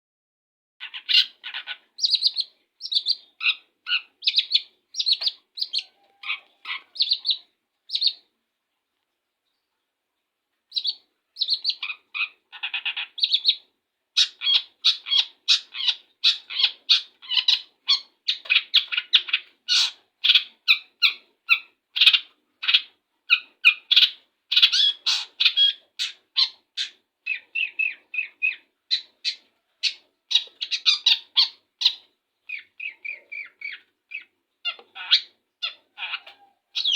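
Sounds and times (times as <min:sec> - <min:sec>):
bird chattering song: 0:00.8 - 0:08.2, 0:10.7 - 0:36.9.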